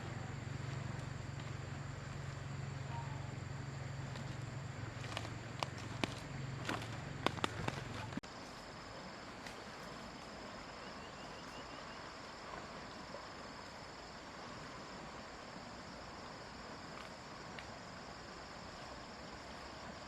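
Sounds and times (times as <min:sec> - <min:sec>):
insects chirping: 0:00.0 - 0:20.0
low steady hum: 0:00.0 - 0:20.0.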